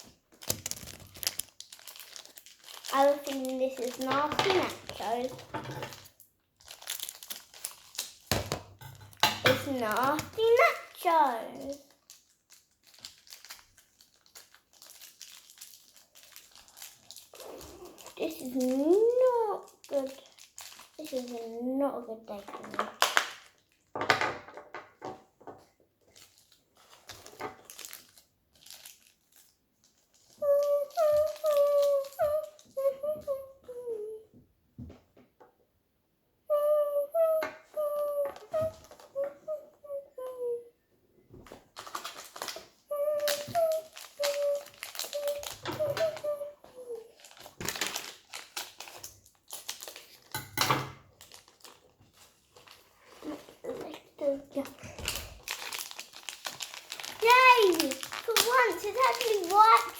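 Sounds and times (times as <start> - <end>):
packaging crinkling and tearing: 0.0 - 23.9, 26.0 - 34.2, 37.8 - 40.4, 41.4 - 50.4, 51.0 - 59.9.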